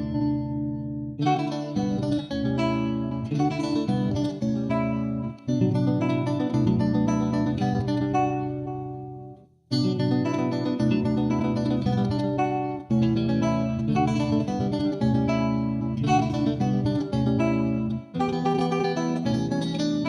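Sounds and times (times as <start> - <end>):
plucked acoustic guitar: 0.0 - 20.0.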